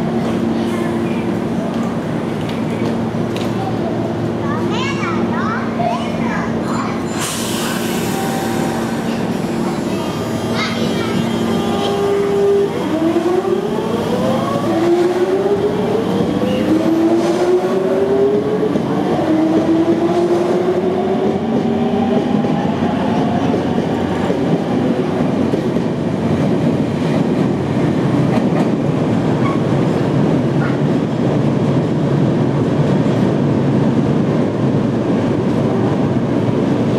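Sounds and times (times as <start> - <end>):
train running rumble: 0.0 - 36.9.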